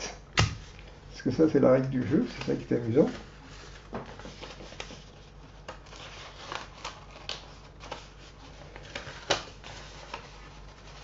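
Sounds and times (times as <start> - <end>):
paper rustling: 1.8 - 11.0.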